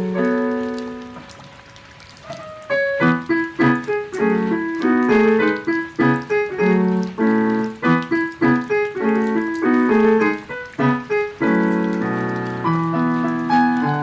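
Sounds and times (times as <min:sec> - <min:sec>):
slow piano piece on keyboard: 0:00.0 - 0:14.0.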